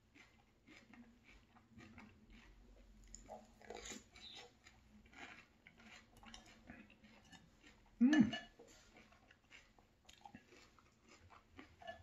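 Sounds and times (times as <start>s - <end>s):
chewing and crunching cereal: 0.0s - 12.0s.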